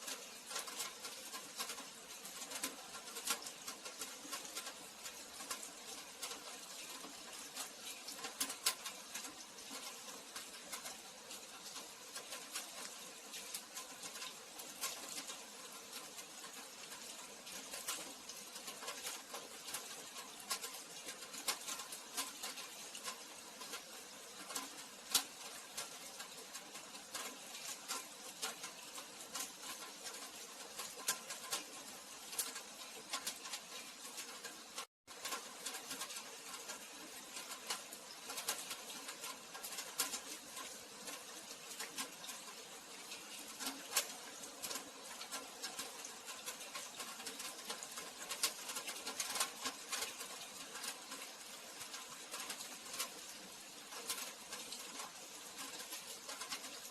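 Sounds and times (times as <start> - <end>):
rain on hard surfaces: 0.0 - 56.9.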